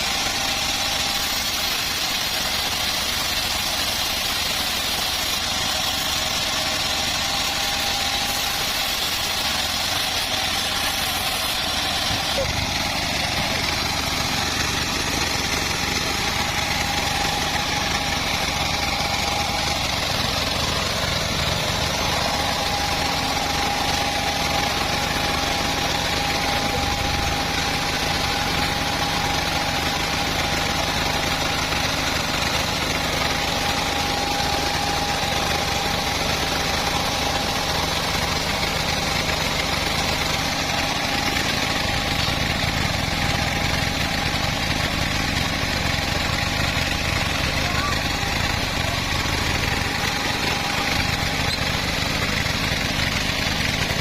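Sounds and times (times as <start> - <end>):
bandsaw mill running: 0.0 - 54.0
constant saw whine: 0.0 - 54.0.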